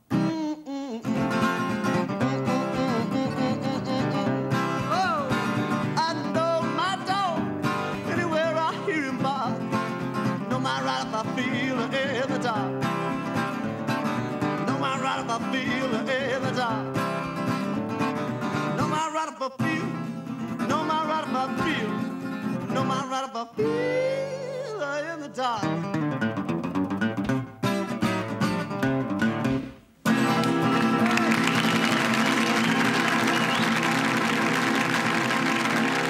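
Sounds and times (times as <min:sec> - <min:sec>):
acoustic guitar country blues: 0:00.0 - 0:36.0.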